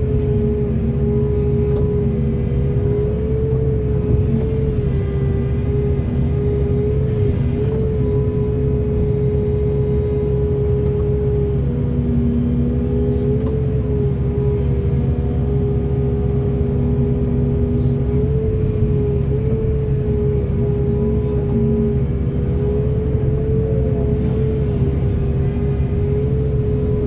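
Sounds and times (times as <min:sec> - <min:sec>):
excavator diesel engine rumbling: 0:00.0 - 0:27.0
high wavering hydraulic whine: 0:00.0 - 0:27.0.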